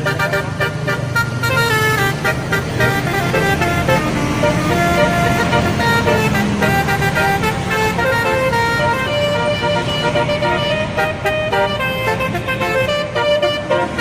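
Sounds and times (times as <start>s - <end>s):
bus engine running: 0.0s - 14.0s
multi-tone air horn tune: 0.0s - 14.0s.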